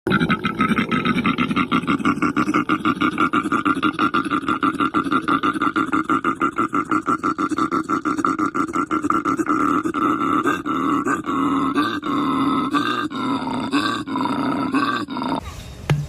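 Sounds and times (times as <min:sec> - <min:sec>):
animal grunting pulses: 0:00.1 - 0:15.5.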